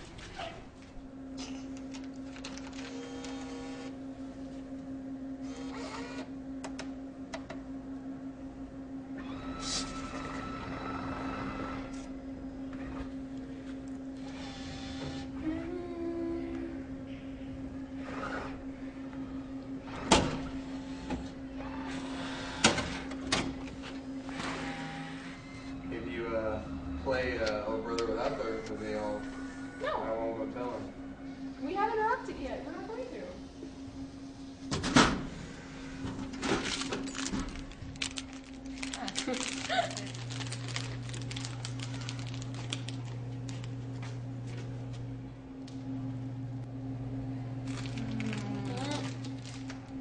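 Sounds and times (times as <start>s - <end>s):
steady humming tone: 0.0s - 50.0s.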